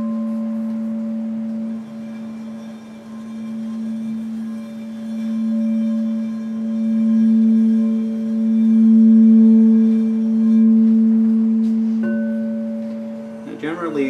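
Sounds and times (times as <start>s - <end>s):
singing bowl deep tone: 0.0s - 14.0s
singing bowl higher tone: 0.0s - 14.0s.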